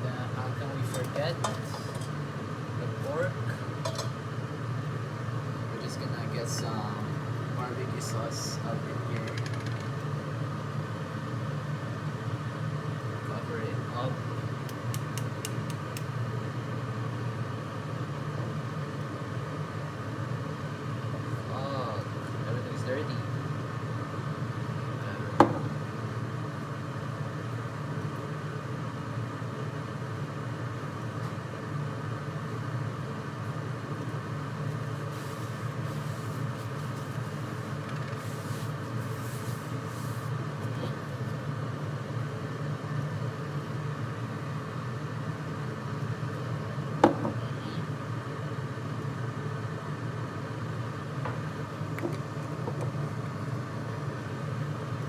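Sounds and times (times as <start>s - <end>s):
appliance humming: 0.0s - 55.0s.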